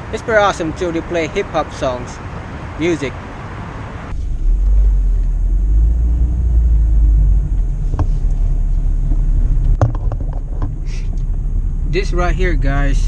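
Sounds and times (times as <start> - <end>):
car driving rumble in cabin: 0.0 - 13.0.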